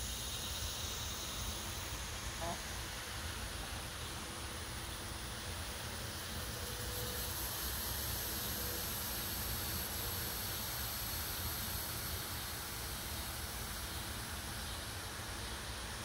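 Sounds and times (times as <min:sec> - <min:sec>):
even hiss: 0:00.0 - 0:16.0.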